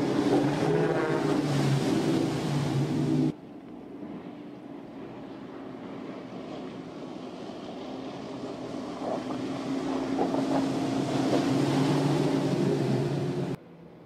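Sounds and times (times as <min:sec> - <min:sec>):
hull rushing through water: 0:00.0 - 0:14.0
outboard motors at high speed: 0:00.0 - 0:14.0.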